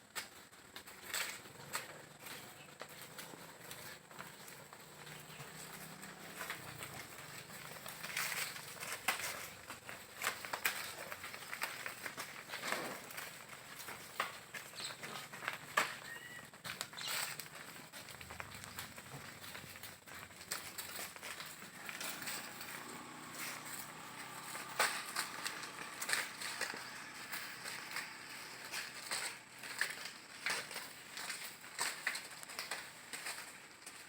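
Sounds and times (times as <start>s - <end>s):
grass crackling and rustling: 0.0s - 34.0s.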